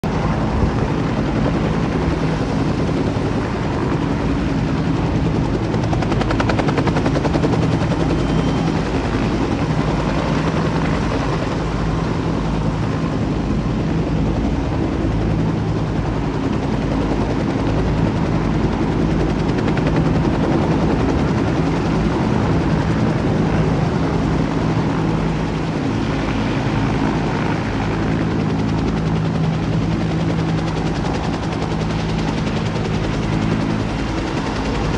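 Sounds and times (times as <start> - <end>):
helicopter engine hum: 0.0 - 34.9
helicopter rotor beating: 0.0 - 34.9.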